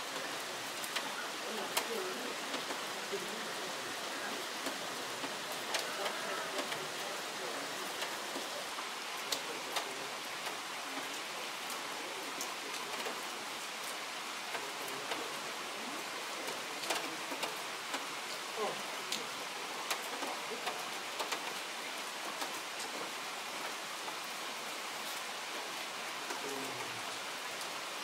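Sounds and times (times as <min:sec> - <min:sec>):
faint distant voices: 0:00.0 - 0:24.0.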